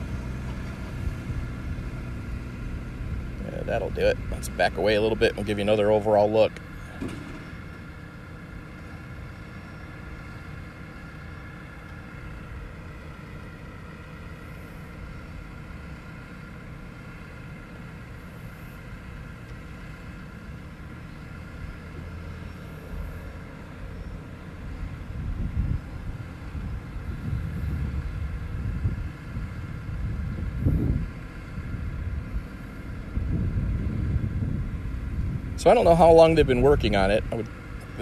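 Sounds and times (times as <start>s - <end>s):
drone propeller whine: 0.0s - 38.0s
low outdoor rumble: 0.0s - 38.0s.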